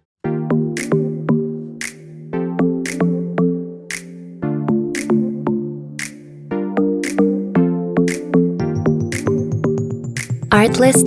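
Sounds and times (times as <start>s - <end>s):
electronic synthesizer music: 0.2s - 11.0s.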